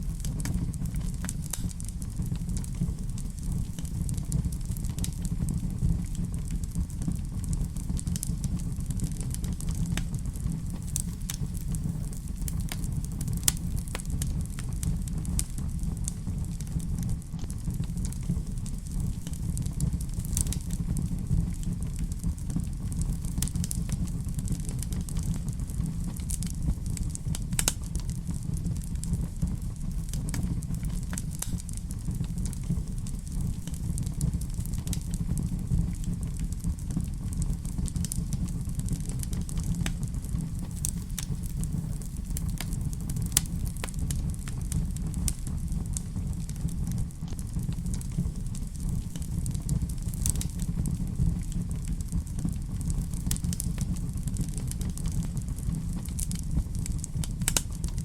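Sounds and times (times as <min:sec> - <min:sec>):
fire low rumble: 0:00.0 - 0:58.0
wood fire crackling: 0:00.0 - 0:58.0.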